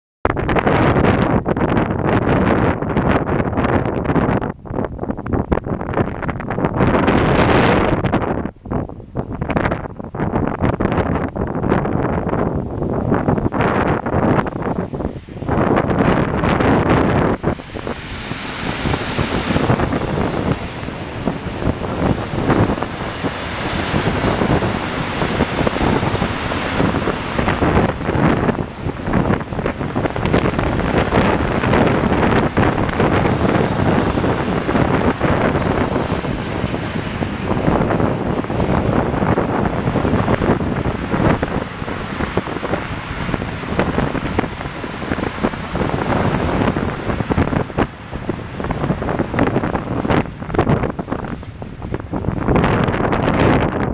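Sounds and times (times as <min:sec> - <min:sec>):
wind buffeting microphone: 0:00.2 - 0:53.9
diesel locomotive: 0:00.3 - 0:53.9
freight train wheels rumbling: 0:00.4 - 0:53.9.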